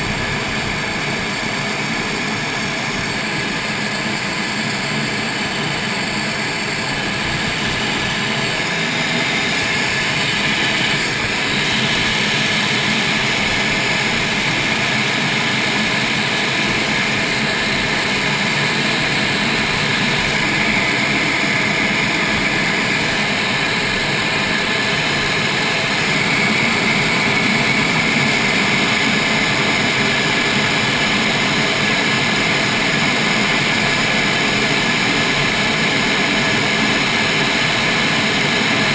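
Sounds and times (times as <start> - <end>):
jet engines in cockpit: 0.0 - 38.9.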